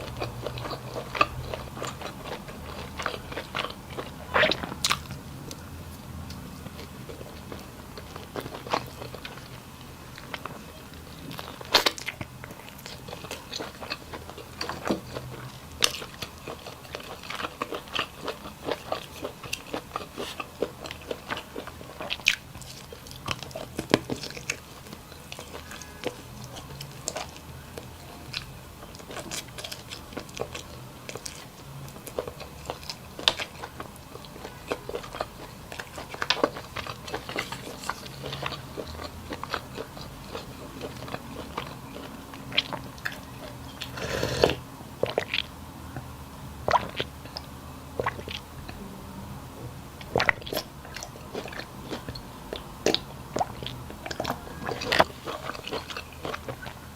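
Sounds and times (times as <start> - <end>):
person chewing and crunching: 0.0 - 45.5, 46.6 - 48.8, 50.0 - 56.9.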